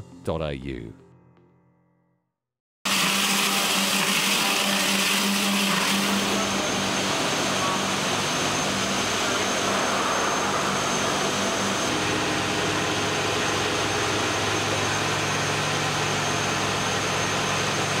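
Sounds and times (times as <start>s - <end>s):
machinery humming: 2.9s - 18.0s.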